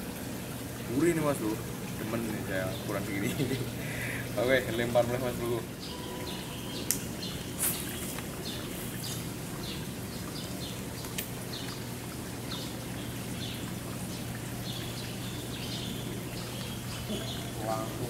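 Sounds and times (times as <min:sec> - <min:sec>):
low background hum: 0:00.0 - 0:18.0
birds chirping: 0:00.9 - 0:18.0.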